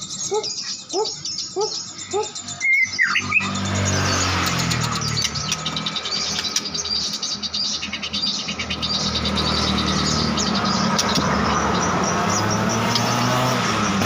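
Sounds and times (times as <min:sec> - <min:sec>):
bird chirping high notes: 0:00.0 - 0:14.0.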